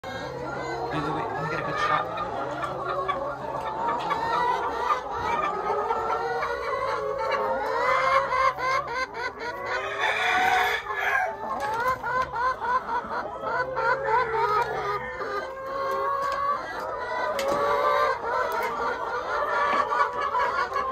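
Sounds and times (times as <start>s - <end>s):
hens clucking: 0.0s - 20.9s.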